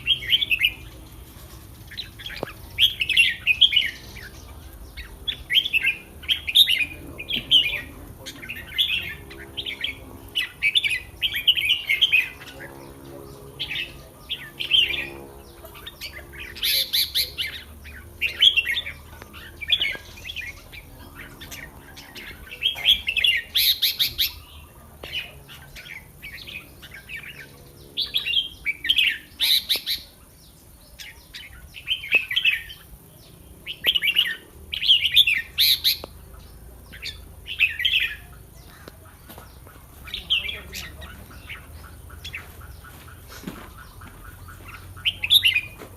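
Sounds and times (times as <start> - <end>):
bird chirping: 0.0 - 45.9.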